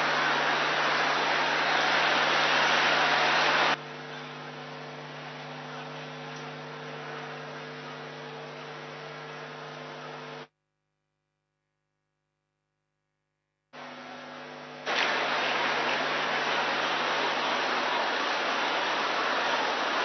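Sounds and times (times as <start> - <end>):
electrical mains hum with hiss: 0.0 - 10.5, 13.8 - 20.0.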